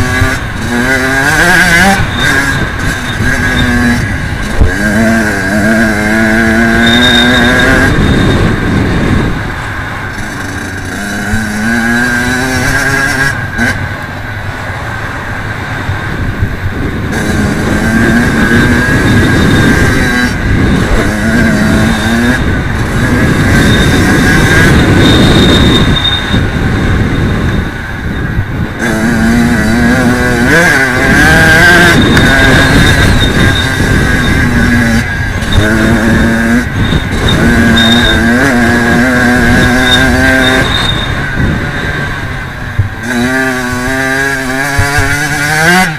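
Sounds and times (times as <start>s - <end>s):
dirt bike engine revving: 0.0s - 14.0s, 16.0s - 45.9s
rumble of wind and tyres: 0.0s - 45.9s.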